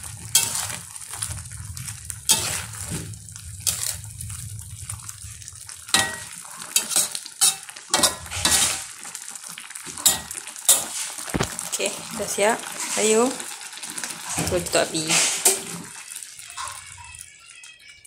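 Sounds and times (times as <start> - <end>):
metal spatula scraping a wok: 0.0 - 9.2, 9.9 - 11.5, 12.1 - 16.9
pan sizzling: 0.0 - 18.0.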